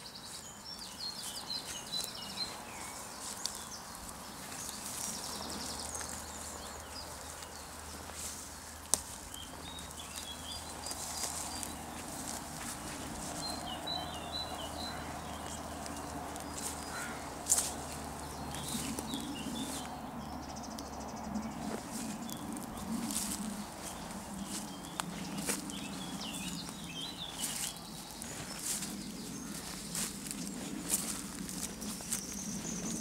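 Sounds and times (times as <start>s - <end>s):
footsteps rustling through grass: 0.0s - 20.0s, 21.4s - 33.0s
birds chirping: 0.0s - 33.0s.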